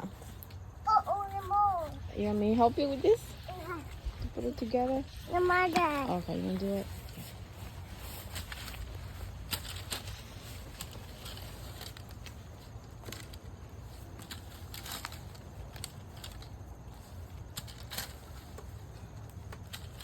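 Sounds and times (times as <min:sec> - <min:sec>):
dry leaves rustling and crunching: 0:01.1 - 0:20.0.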